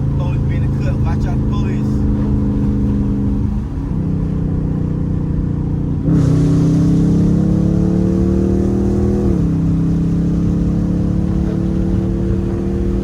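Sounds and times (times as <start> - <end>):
car exhaust accelerating: 0.0 - 13.0.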